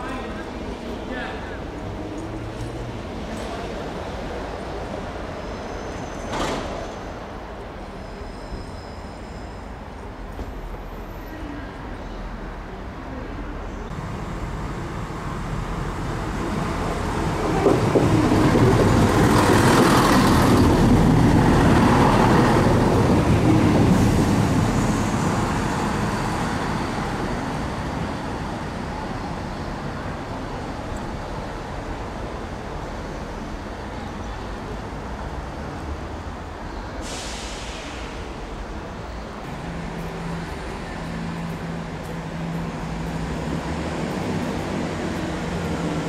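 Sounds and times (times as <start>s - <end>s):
train diesel engines rumbling: 0.0s - 46.0s.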